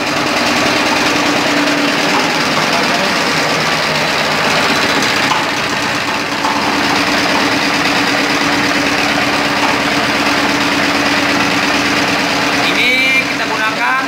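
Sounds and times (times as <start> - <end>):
generator engine running: 0.0 - 14.0
steady electrical hum: 0.0 - 14.0.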